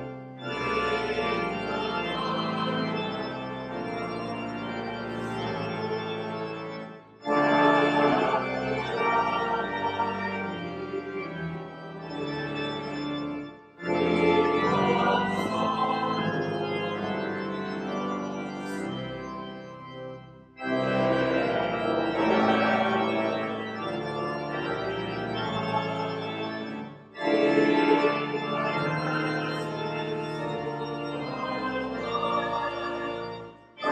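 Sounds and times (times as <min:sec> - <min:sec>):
church organ playing a hymn: 0:00.0 - 0:33.9
choir and congregation singing: 0:00.4 - 0:13.0, 0:13.8 - 0:19.0, 0:20.9 - 0:33.9.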